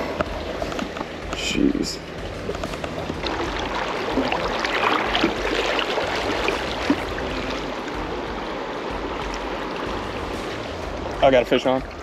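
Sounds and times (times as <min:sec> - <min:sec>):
river current rushing: 0:00.0 - 0:12.0
small water splashes: 0:02.0 - 0:12.0.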